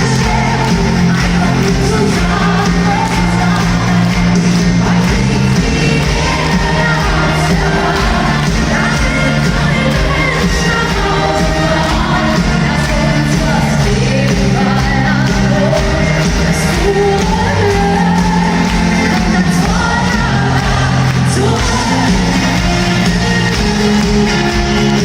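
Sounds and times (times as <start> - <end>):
live band playing pop song: 0.0 - 25.0
woman singing: 0.0 - 25.0.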